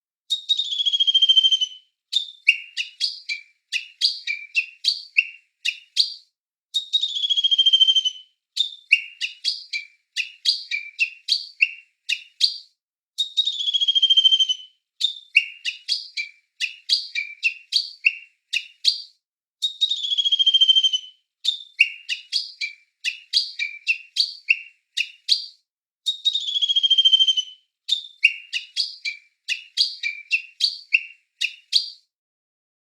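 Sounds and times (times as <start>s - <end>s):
songbird whistling and chirping: 0.3s - 32.1s.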